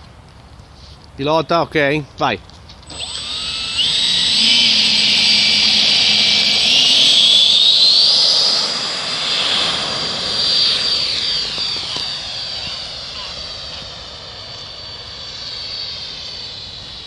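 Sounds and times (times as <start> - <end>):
electric ducted fan whine: 2.6 - 17.0.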